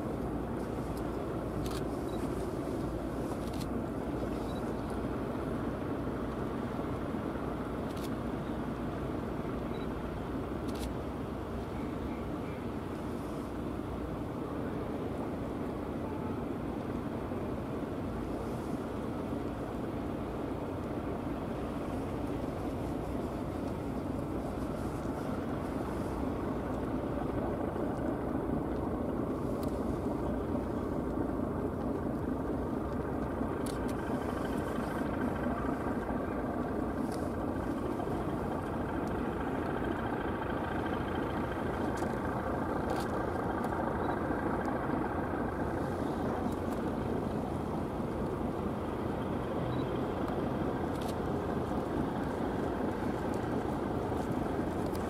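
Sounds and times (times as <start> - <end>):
ship engines rumbling: 0.0 - 55.0.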